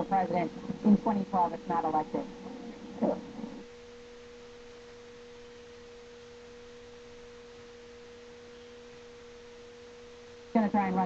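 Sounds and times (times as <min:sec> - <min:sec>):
faint steady electronic tone: 0:00.0 - 0:11.0.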